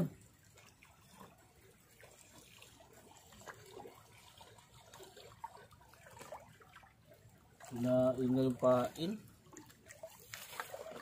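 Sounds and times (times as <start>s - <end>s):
calm sea water lapping: 0.0s - 11.0s.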